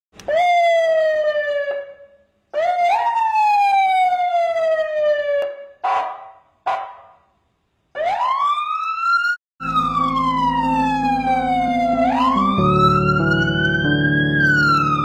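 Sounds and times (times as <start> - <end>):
police siren wailing: 0.2 - 7.1, 8.0 - 15.0
harsh siren blasts: 0.2 - 7.3, 8.0 - 15.0.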